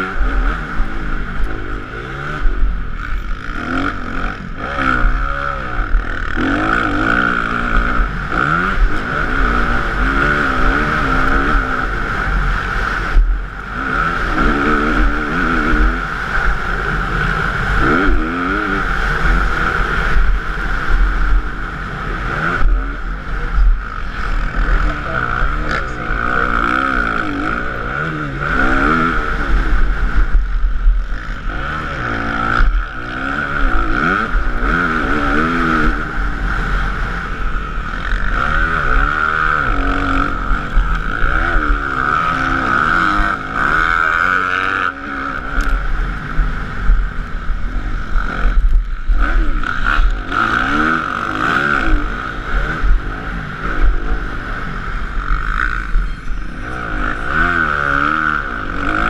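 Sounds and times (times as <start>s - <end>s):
motocross motorcycle engine revving: 0.0s - 59.0s
wind rumble on microphone: 0.0s - 59.0s.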